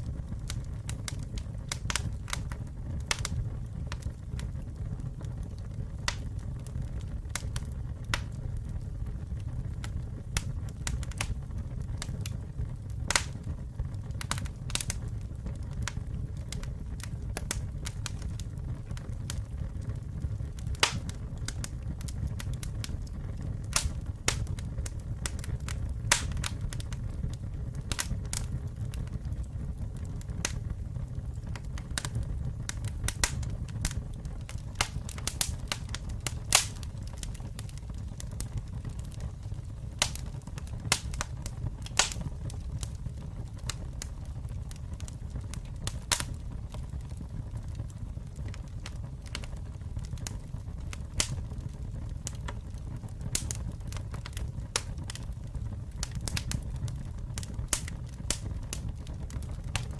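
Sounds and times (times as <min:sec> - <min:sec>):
campfire burning with low rumble: 0:00.0 - 0:59.9
fire crackling and popping: 0:00.0 - 0:59.9.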